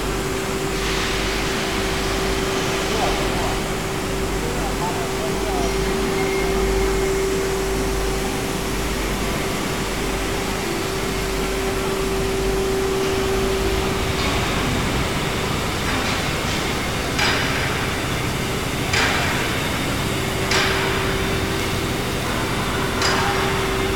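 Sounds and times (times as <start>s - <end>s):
machine humming: 0.0s - 23.9s.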